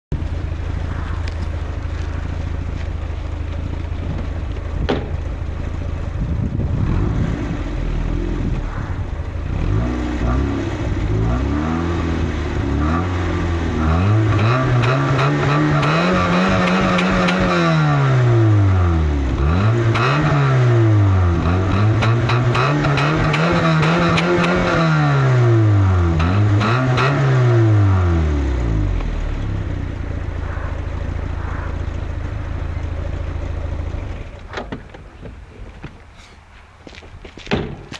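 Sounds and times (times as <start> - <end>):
car engine idling and revving: 0.0 - 36.8.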